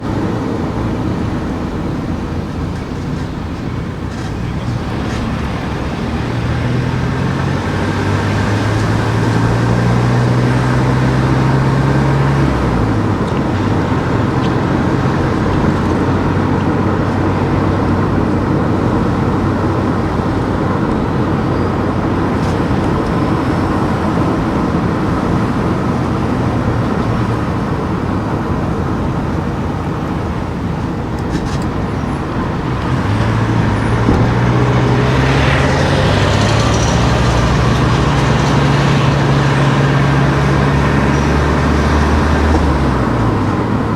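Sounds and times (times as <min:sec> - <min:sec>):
low engine hum: 0:00.0 - 0:43.9
tyres rushing on road: 0:00.0 - 0:43.9.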